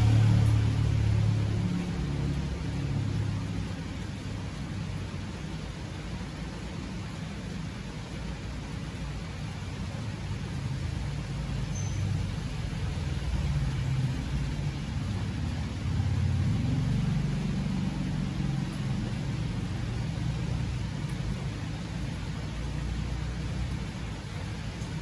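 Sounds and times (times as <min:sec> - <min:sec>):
passing vehicle engine rumble: 0:00.0 - 0:08.2, 0:09.1 - 0:25.0
steady rain falling: 0:00.0 - 0:25.0.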